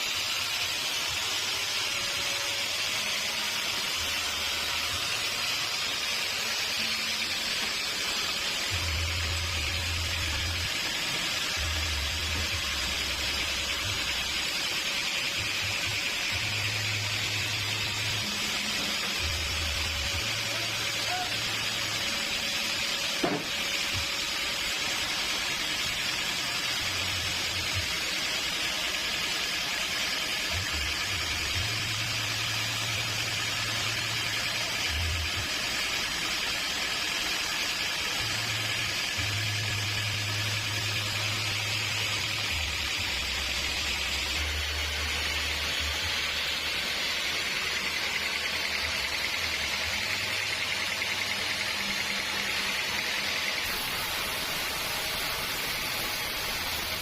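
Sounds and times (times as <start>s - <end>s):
sawmill machinery hissing: 0.0s - 57.0s.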